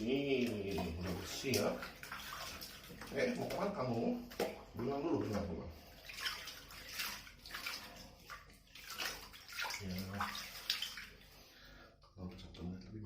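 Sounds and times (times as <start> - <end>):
water sloshing and splashing: 0.0 - 11.8.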